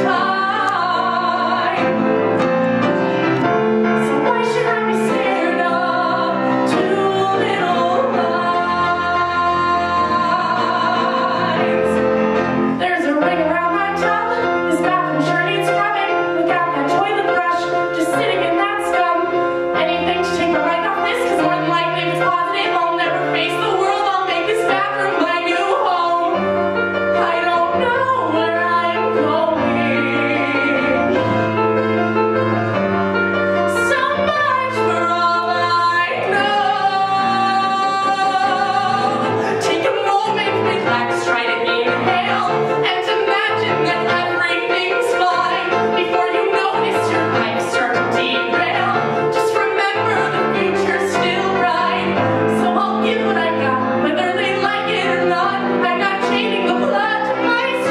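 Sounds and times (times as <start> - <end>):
piano accompaniment: 0.0 - 57.9
woman singing pop song: 4.0 - 12.0, 12.8 - 26.4, 27.2 - 31.0, 33.7 - 57.9.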